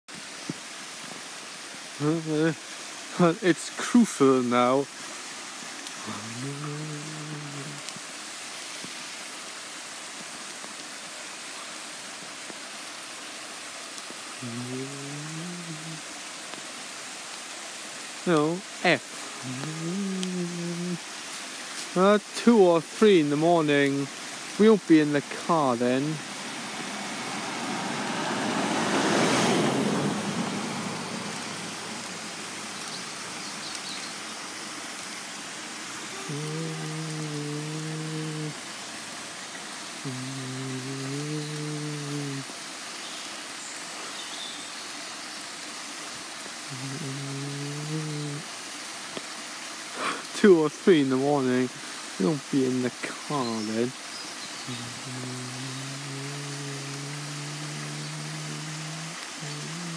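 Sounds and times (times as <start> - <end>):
brook running over stones: 0.1 - 59.9.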